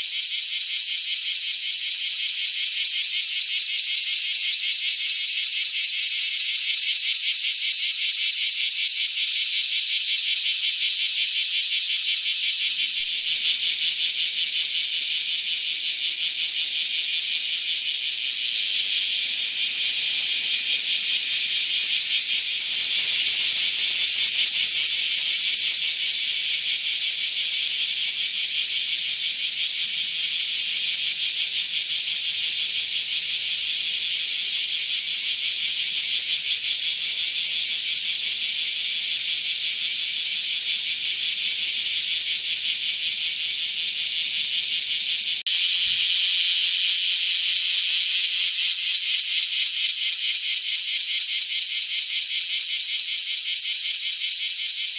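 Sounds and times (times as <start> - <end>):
cicada buzzing: 0.0 - 54.9.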